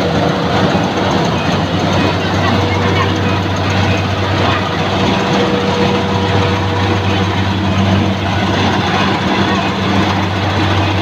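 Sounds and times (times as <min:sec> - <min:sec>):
harvester engine hum: 0:00.0 - 0:11.0
mechanical noise: 0:00.0 - 0:11.0.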